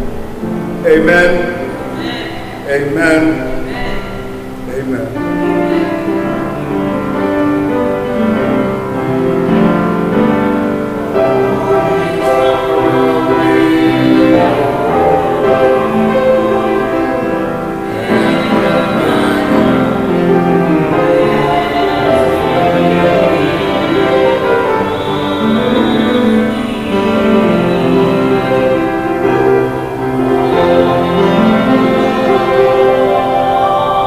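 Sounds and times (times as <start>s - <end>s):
slow keyboard music: 0.0s - 34.0s.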